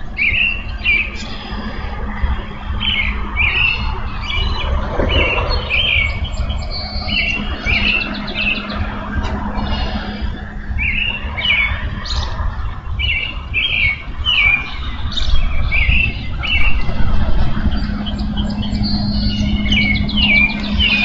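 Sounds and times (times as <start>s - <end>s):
low hum and rumble: 0.0s - 21.0s
songbirds singing: 0.0s - 21.0s.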